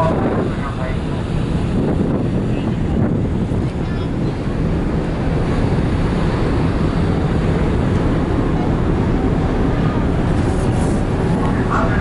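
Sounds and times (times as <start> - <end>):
low ship rumble: 0.0 - 12.0
wind noise on microphone: 0.0 - 12.0.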